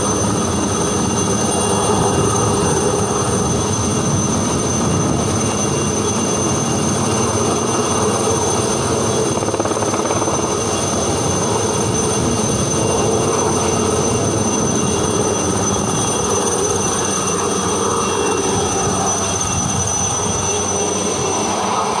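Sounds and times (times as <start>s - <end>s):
helicopter turbine whine and rotor: 0.0s - 22.0s.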